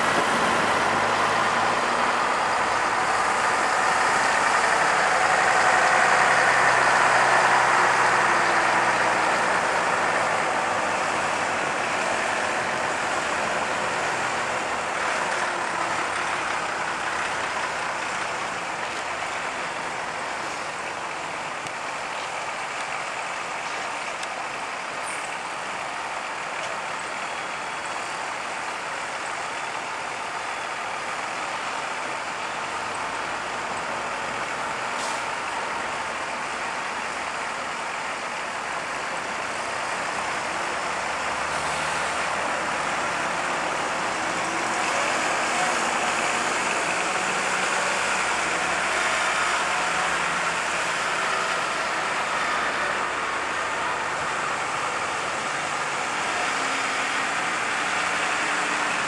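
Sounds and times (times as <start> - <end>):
buses driving past: 0.0 - 59.0.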